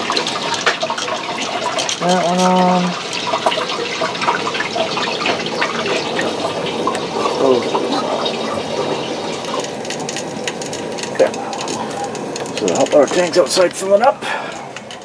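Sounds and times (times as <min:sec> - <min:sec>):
small crackles in pipes: 0:00.0 - 0:15.0
water rushing through pipes: 0:00.0 - 0:15.0.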